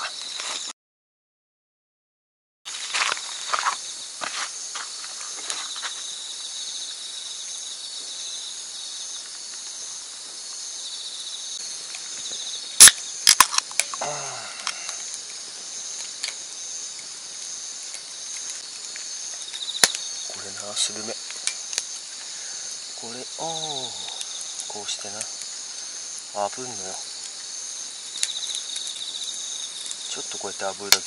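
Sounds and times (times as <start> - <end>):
insects chirping chorus: 0.0 - 0.7, 2.7 - 31.0.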